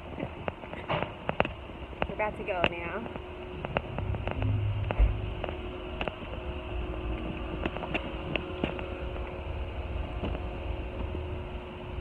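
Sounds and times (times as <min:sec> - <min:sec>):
faint steady hum: 0:00.0 - 0:12.0
low outdoor rumble: 0:00.0 - 0:12.0.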